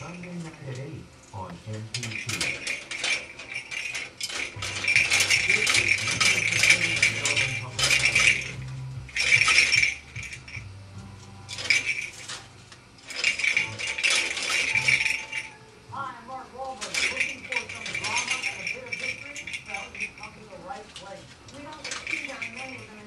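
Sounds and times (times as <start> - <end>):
parrot toy jingling: 0.0 - 1.0, 1.9 - 15.7, 16.3 - 23.0.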